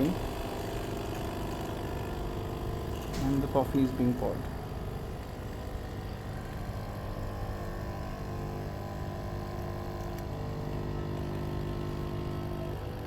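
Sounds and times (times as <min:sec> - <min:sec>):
coffee machine pump humming: 0:00.0 - 0:13.0.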